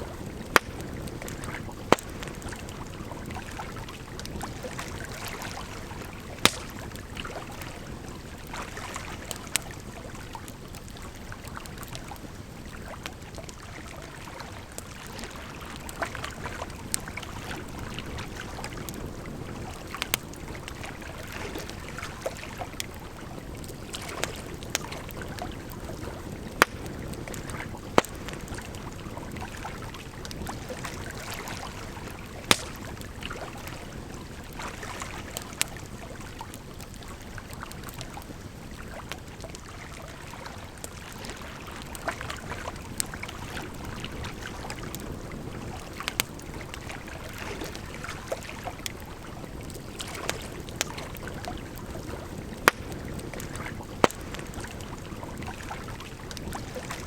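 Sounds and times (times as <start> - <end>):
campfire crackling and popping: 0.0 - 57.0
flowing water: 0.0 - 57.0.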